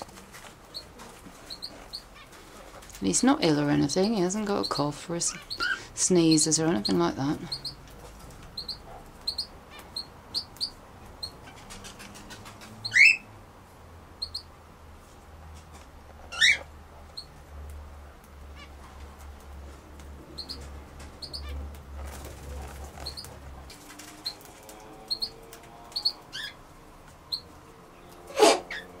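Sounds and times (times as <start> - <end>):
small birds chirping: 0.0 - 13.4, 14.2 - 14.6, 16.2 - 17.4, 18.4 - 26.6, 27.2 - 29.0.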